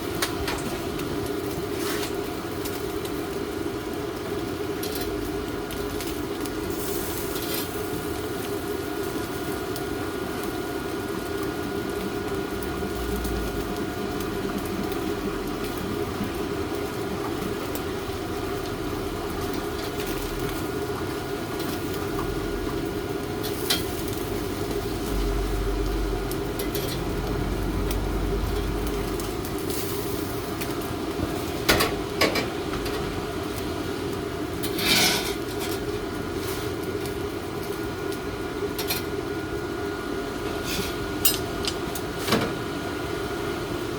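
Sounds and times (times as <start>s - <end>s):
steady droning hum: 0.0s - 43.9s.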